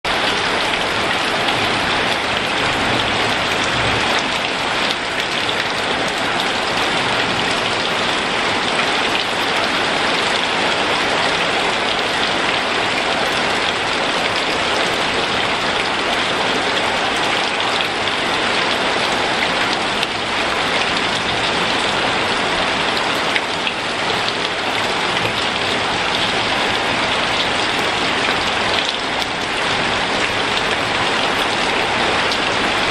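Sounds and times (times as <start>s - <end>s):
heavy rain on leaves: 0.0s - 32.9s.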